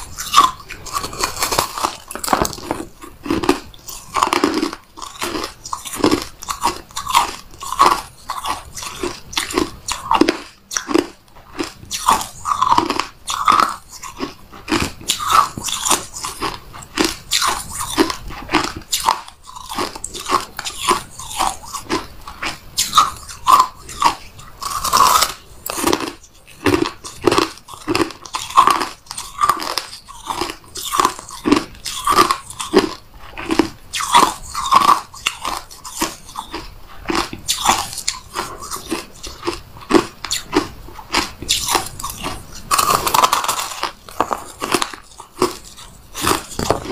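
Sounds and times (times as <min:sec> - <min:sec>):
crunching ice: 0:00.0 - 0:46.9.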